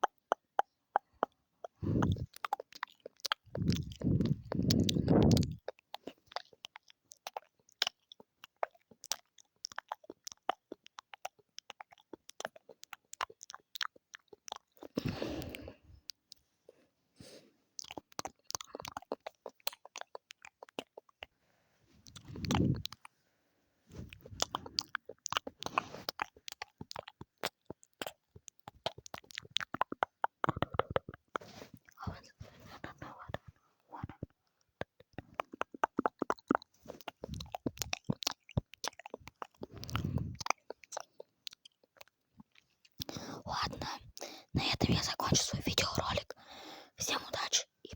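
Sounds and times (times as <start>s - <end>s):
wet mouth clicks and smacks: 0.0s - 16.4s, 17.8s - 21.3s, 22.0s - 23.2s, 23.9s - 47.9s.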